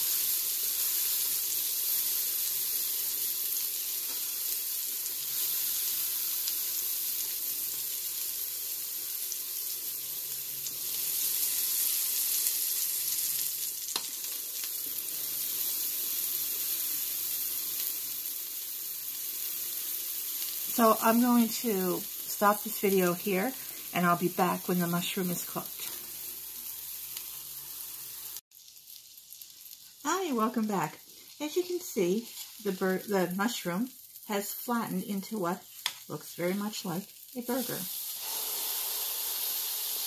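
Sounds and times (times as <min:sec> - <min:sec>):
mushroom sizzling in frying pan: 0:00.0 - 0:40.0.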